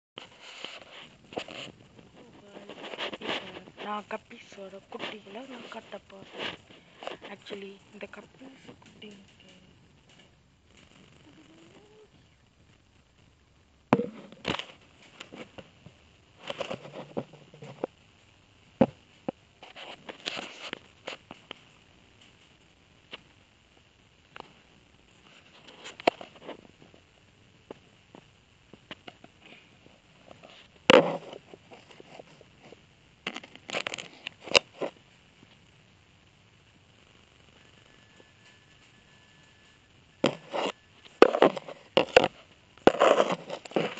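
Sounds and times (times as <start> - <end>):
rustling: 0.2 - 13.0, 14.0 - 23.3, 28.9 - 35.7, 37.4 - 43.9.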